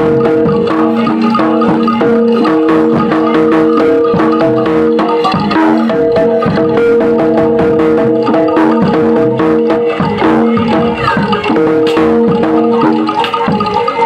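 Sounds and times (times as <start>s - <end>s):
gamelan ensemble music: 0.0s - 14.0s.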